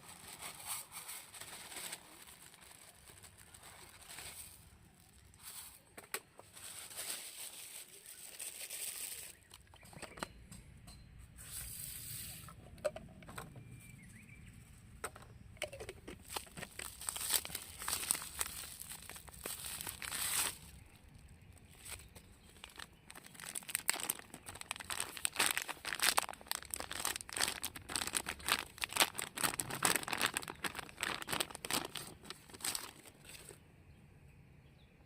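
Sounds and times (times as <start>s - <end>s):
rustling and handling noises: 0.0s - 10.3s, 14.8s - 33.7s.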